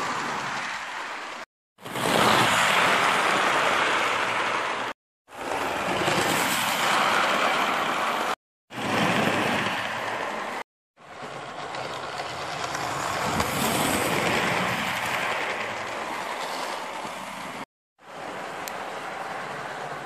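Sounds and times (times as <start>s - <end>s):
model train running on track: 2.0s - 20.0s.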